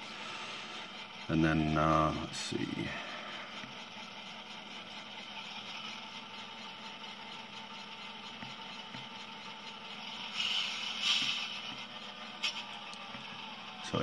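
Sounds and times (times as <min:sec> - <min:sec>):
model locomotive diesel idling sound: 0:00.0 - 0:14.0.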